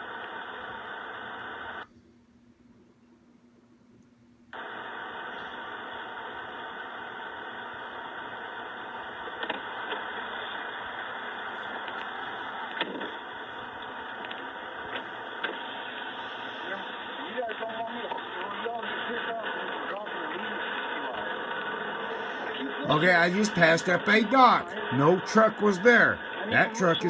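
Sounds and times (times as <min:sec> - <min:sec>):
steady noisy hum: 0:00.0 - 0:27.0.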